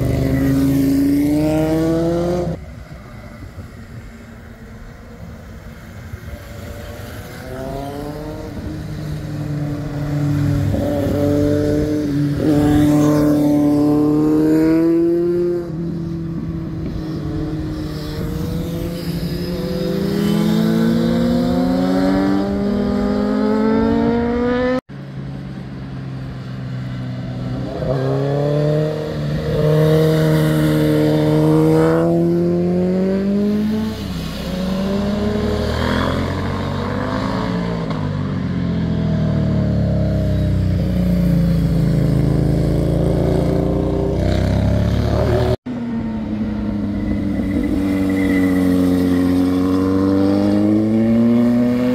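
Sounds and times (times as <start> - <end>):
motorcycles accelerating past: 0.0 - 2.6, 6.2 - 24.8, 26.5 - 51.9.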